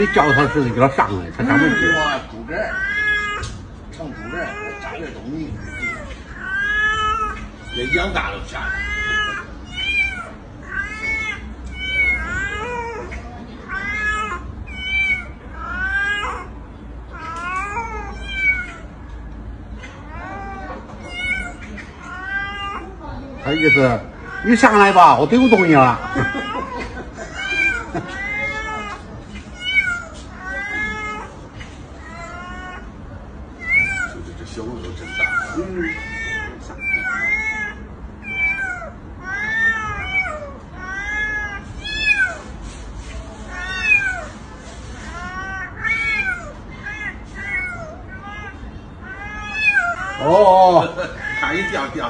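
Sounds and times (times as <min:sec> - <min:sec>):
cats meowing: 0:00.0 - 0:52.0.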